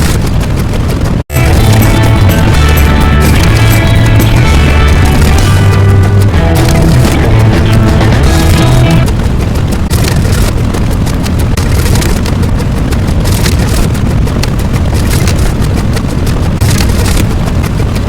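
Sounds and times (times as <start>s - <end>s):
loud rumbling with crackles: 0.0s - 18.0s.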